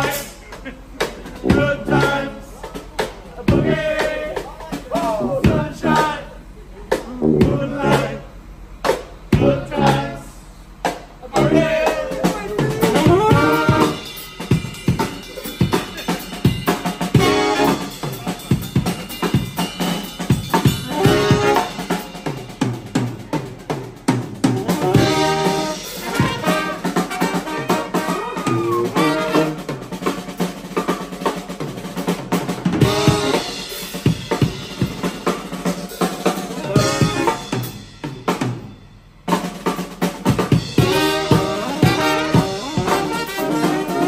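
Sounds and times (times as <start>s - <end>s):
brass band playing: 0.0s - 0.4s, 1.0s - 6.4s, 7.1s - 44.0s
drum kit beat: 0.0s - 44.0s.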